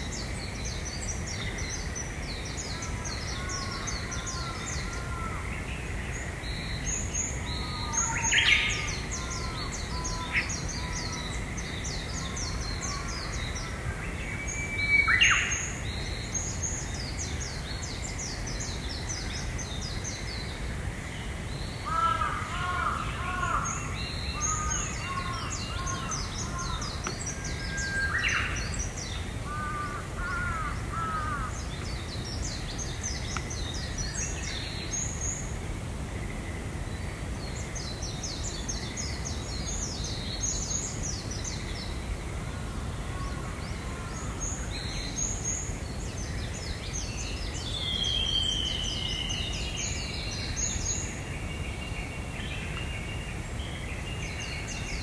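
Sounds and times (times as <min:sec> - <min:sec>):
birds trilling and warbling: 0:00.0 - 0:20.2, 0:21.3 - 0:35.5, 0:36.2 - 0:55.0.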